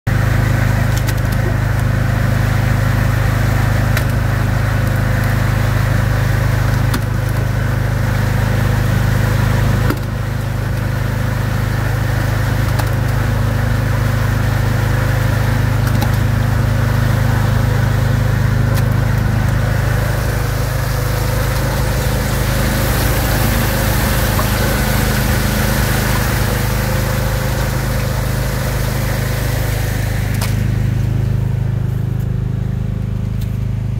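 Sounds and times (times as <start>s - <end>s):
drum screen machinery humming: 0.1s - 33.9s.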